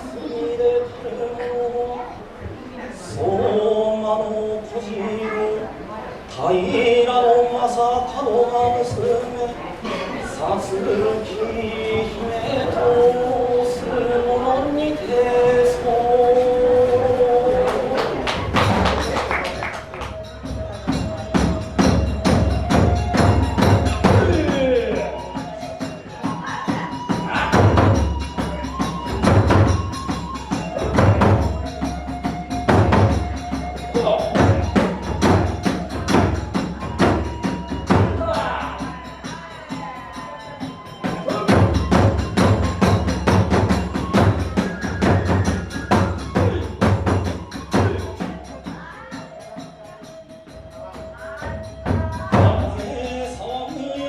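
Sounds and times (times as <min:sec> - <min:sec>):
drum beating: 0:08.4 - 0:54.0
bamboo flute: 0:10.5 - 0:54.0.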